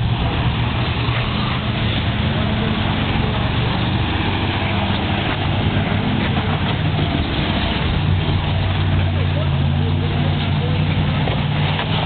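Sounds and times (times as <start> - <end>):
constant rushing noise: 0.0 - 12.0
vehicle engine idling: 0.0 - 12.0.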